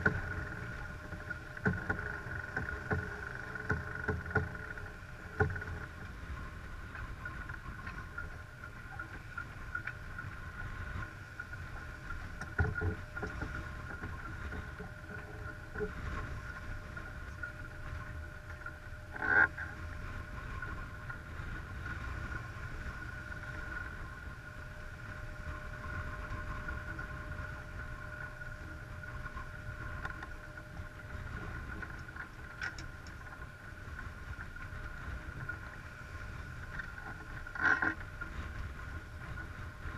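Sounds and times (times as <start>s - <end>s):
faint steady whine: 0.0s - 39.9s
water rushing along hull: 0.0s - 39.9s
wind on microphone: 0.0s - 39.9s.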